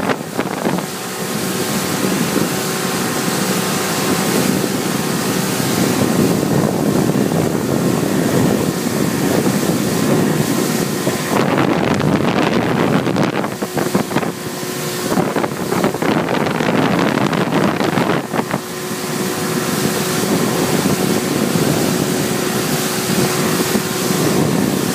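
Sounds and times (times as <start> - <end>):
boat engine running: 0.0 - 24.9
wind buffeting microphone: 0.0 - 24.9.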